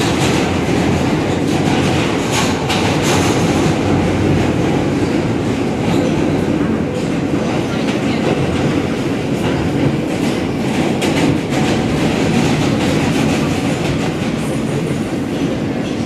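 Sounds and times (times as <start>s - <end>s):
subway train rumble: 0.0s - 16.0s.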